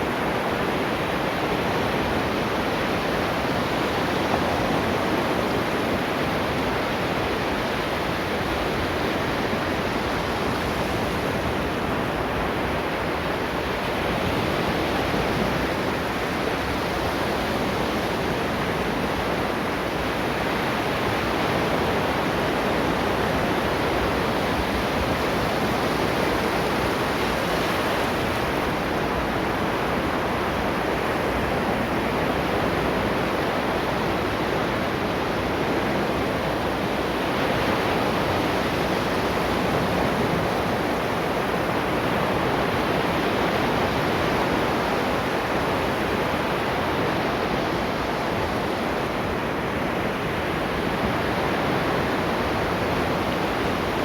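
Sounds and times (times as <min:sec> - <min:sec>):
ocean waves washing on shore: 0:00.0 - 0:54.0.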